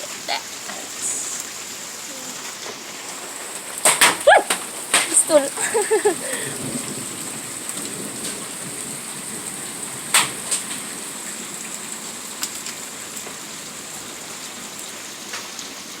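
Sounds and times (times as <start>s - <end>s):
hailstones clicking on hard surface: 0.0s - 13.4s
rain and light hail falling: 0.0s - 16.0s.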